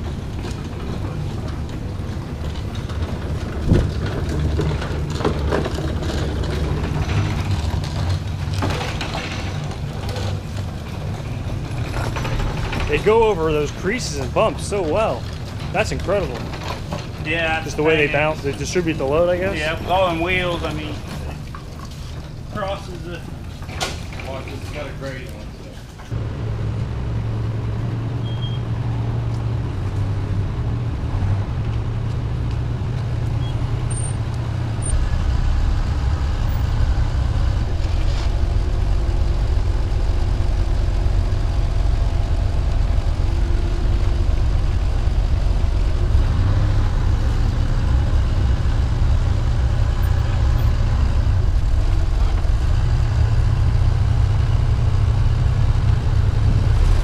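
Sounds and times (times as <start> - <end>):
forklift engine droning: 0.0 - 57.0.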